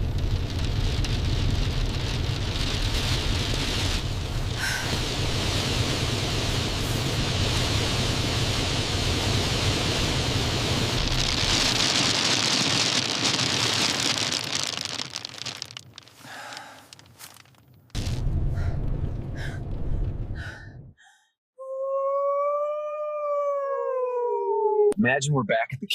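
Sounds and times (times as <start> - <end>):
blizzard wind: 0.0 - 21.1
deep rumble: 0.0 - 21.2.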